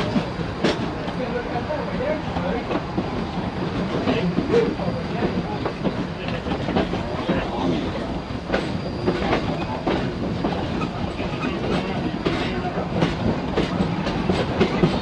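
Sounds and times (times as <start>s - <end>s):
track clicks and clacks: 0.0s - 15.0s
train wheels rumbling on rail: 0.0s - 15.0s.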